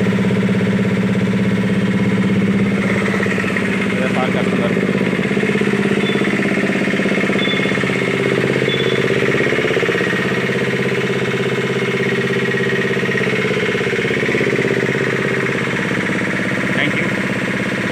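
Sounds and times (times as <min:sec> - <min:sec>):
small engine idling chugging: 0:00.0 - 0:17.9.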